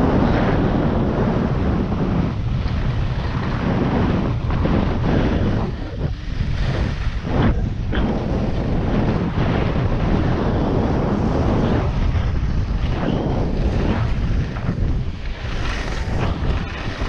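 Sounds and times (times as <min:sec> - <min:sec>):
skis scraping across snow: 0:00.0 - 0:17.0
wind rushing over microphone: 0:00.0 - 0:17.0.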